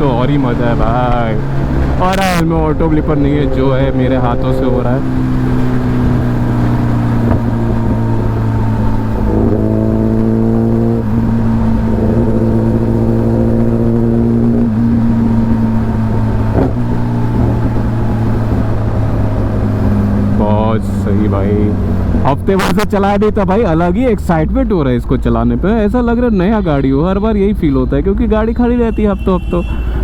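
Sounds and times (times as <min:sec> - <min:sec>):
motorcycle engine accelerating: 0:00.0 - 0:24.8.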